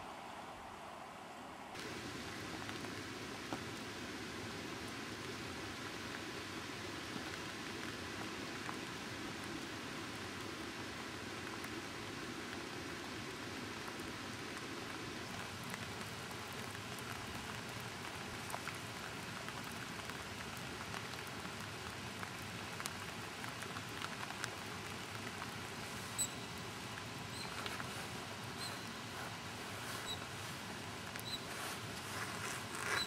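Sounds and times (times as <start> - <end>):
rain hissing: 0.0 - 33.0
raindrops ticking: 1.8 - 33.0.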